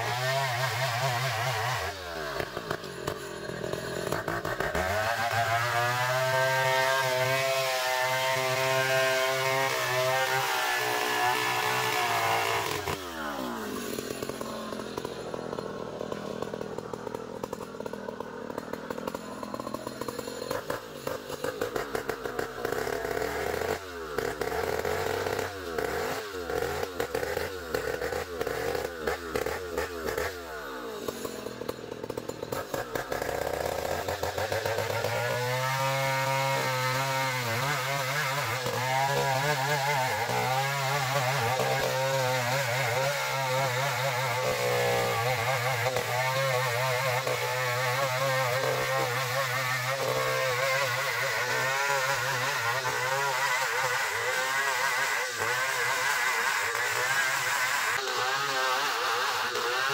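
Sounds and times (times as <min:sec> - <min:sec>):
sawmill engine running: 0:00.1 - 0:59.9.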